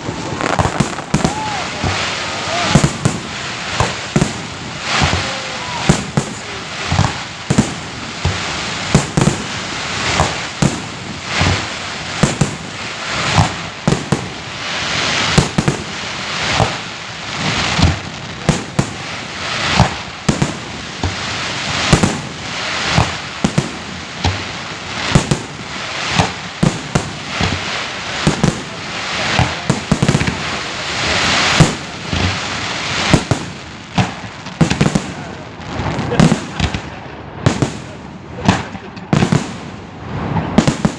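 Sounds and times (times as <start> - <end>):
crackling hiss: 0.0 - 40.9
fireworks bursts and bangs: 0.0 - 40.9.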